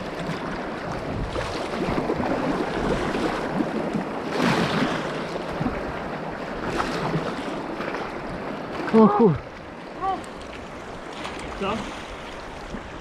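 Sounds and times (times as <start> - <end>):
paddle splashing water: 0.0 - 13.0
river current rushing: 0.0 - 13.0
wind buffeting microphone: 0.0 - 13.0.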